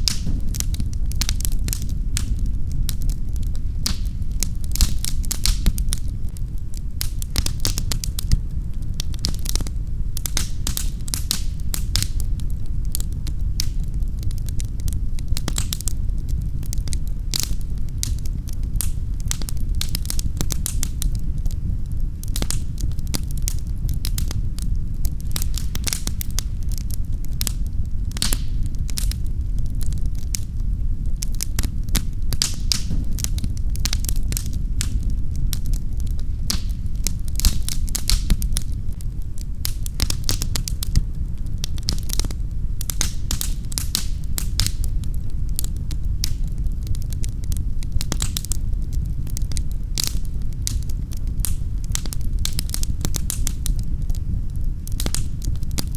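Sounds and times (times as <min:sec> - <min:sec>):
fire crackling and popping: 0:00.0 - 0:55.9
low rumble of flame: 0:00.0 - 0:55.9.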